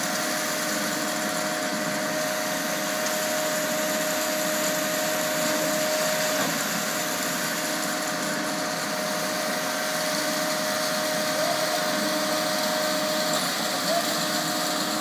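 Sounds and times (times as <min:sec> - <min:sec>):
pump truck mechanical whine: 0:00.0 - 0:15.0.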